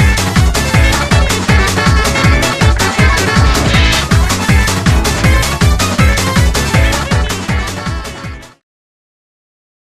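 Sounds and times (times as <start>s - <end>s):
electronic dance music: 0.3s - 8.4s.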